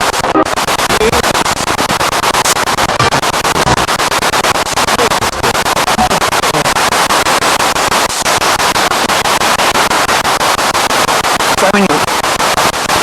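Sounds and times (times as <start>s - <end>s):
pulsing radio static hiss: 0.0s - 13.0s
snatches of radio sound: 0.0s - 13.0s.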